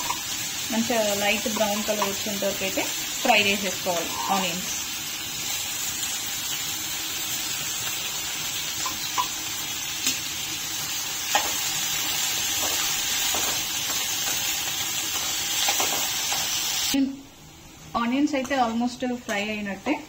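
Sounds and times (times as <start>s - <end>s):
onions sizzling in hot oil: 0.0s - 17.1s.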